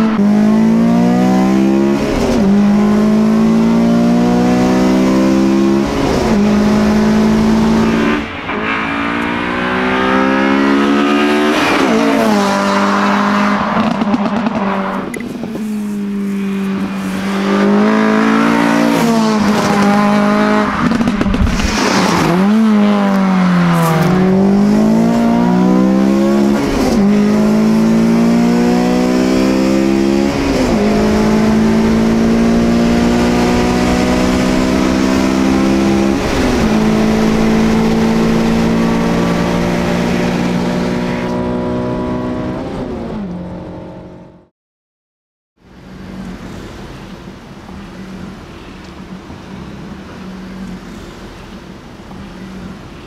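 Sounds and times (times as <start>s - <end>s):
car engine at full throttle: 0.0s - 44.5s, 45.6s - 53.0s.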